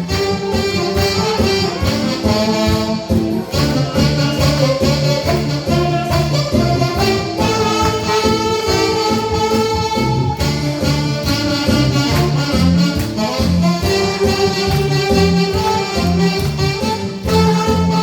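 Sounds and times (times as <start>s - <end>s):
accompaniment with steady beat: 0.0s - 18.0s
saxophones playing melody: 0.0s - 18.0s.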